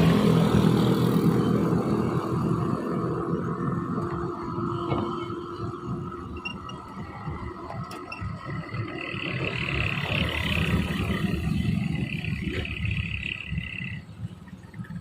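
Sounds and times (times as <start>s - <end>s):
engine whine: 0.0s - 15.0s
truck diesel engine under load: 0.0s - 15.0s.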